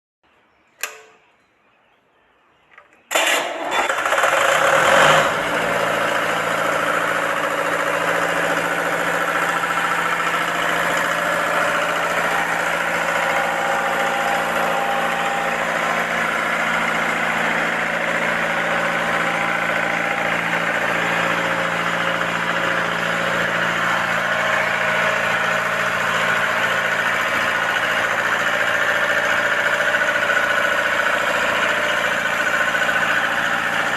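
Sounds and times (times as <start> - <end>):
vehicle engine starting and idling: 2.8 - 33.9.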